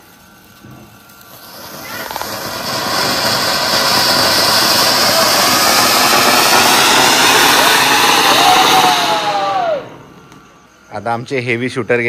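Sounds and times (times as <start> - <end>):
firecracker hissing: 0.0 - 11.4.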